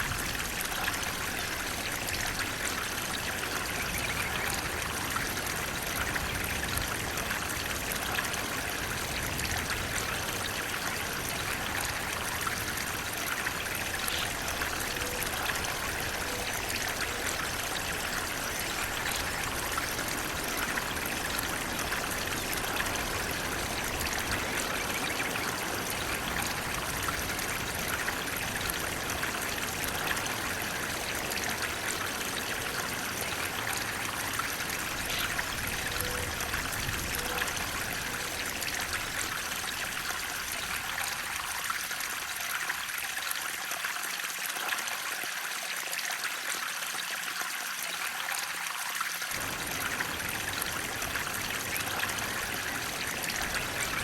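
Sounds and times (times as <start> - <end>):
water rushing and trickling: 0.0 - 54.0.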